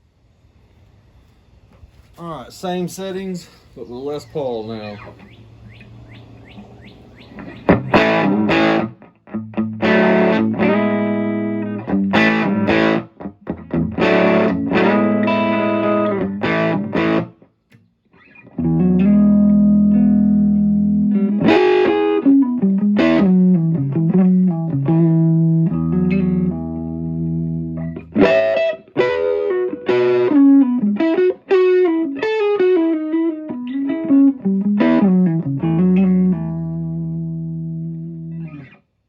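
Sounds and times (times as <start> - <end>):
electric guitar chords: 6.0 - 38.8.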